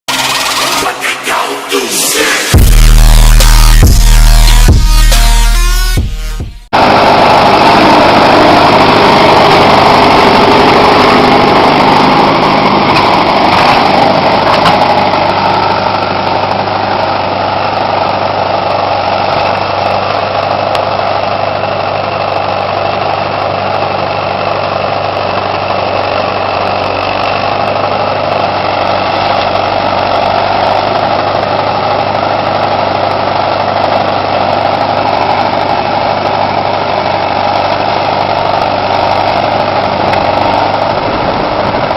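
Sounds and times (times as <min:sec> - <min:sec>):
tractor engine idling: 0:00.1 - 0:41.9.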